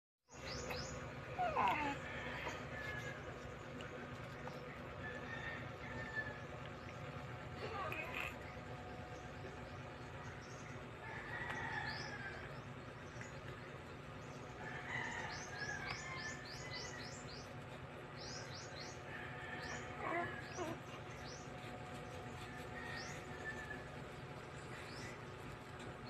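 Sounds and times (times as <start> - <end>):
small birds chirping: 0.3 - 26.0.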